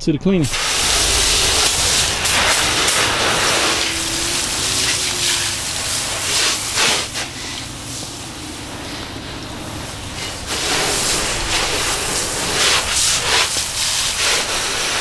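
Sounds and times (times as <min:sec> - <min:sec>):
water splashing on car: 0:00.5 - 0:15.0.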